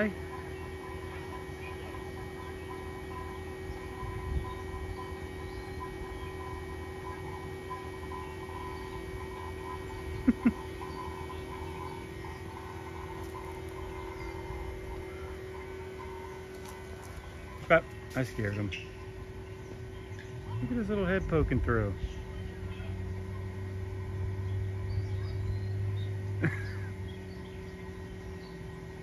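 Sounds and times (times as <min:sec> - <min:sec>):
vacuum pump humming: 0:00.0 - 0:29.0.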